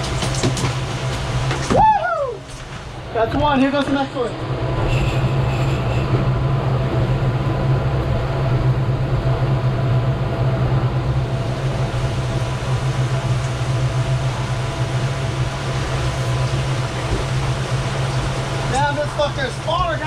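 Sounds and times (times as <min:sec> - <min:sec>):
outboard motors droning: 0:00.0 - 0:20.0
water rushing: 0:00.0 - 0:20.0
wind: 0:00.0 - 0:20.0.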